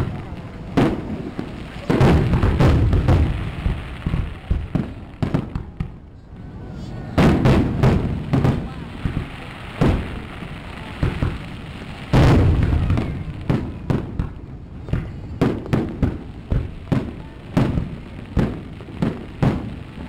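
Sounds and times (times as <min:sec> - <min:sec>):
small firework cracks: 0:00.0 - 0:06.0, 0:07.2 - 0:20.0
fireworks booming: 0:00.0 - 0:06.1, 0:07.1 - 0:20.0.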